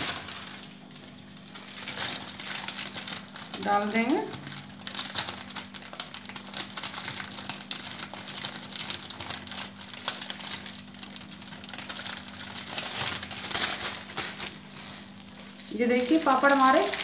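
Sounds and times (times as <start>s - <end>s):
plastic sheet crinkling: 0.0s - 17.0s.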